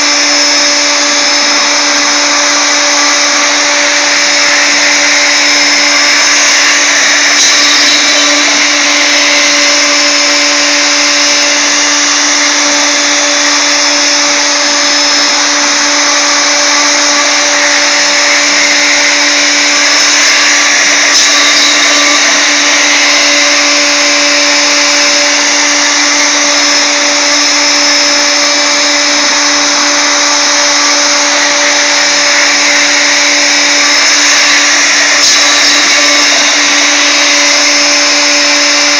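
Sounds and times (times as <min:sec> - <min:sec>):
router motor whining: 0:00.0 - 0:38.9.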